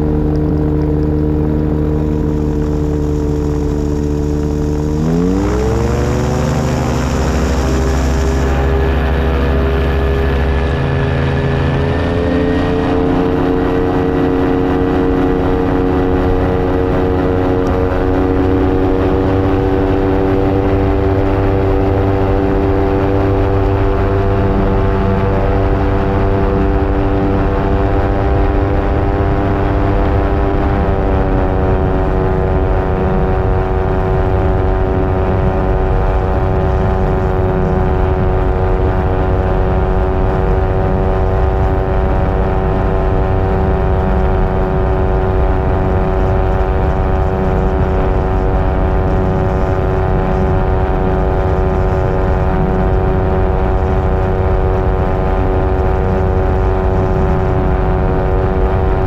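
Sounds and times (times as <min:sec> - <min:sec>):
ultralight engine and propeller: 0:00.0 - 0:59.0.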